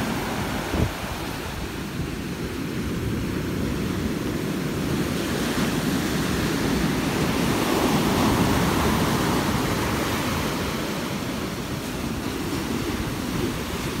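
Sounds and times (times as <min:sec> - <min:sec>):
ocean surf on beach: 0:00.0 - 0:14.0.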